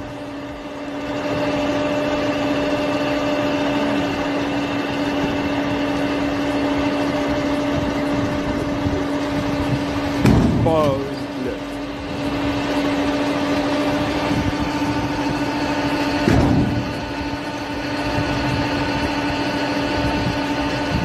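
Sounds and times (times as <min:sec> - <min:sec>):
engine droning hum: 0:00.0 - 0:21.0.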